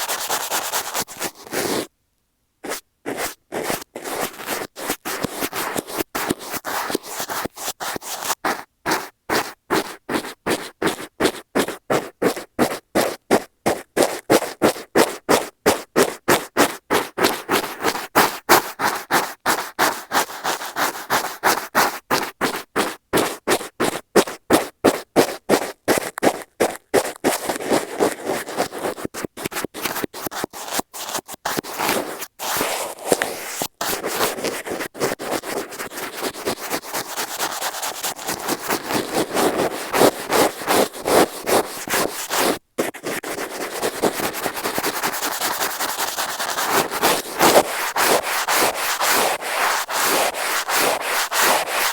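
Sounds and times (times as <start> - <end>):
brush scratching on microphone: 0.0 - 1.9, 2.6 - 51.9.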